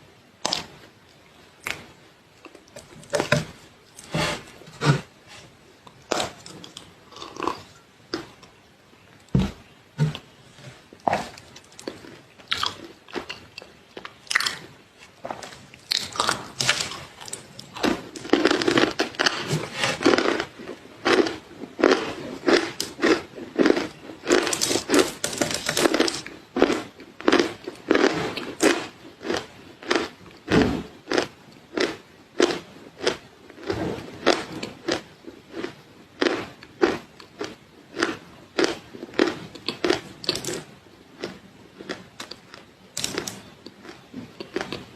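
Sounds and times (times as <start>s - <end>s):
chewing crunchy food: 0.4s - 1.8s, 5.9s - 8.5s, 10.0s - 44.9s.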